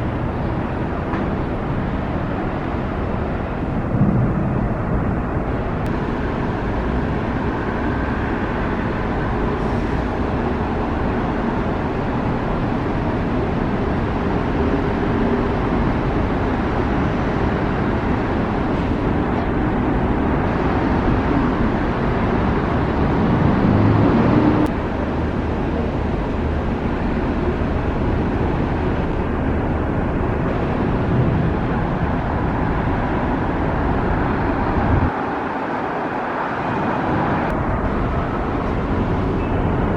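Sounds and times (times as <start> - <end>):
road traffic: 0.0 - 39.9.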